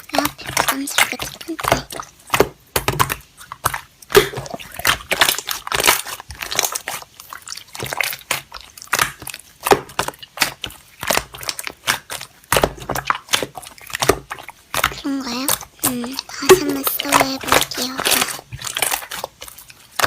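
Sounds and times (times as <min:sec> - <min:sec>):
slime squished by hand: 0:00.0 - 0:20.0.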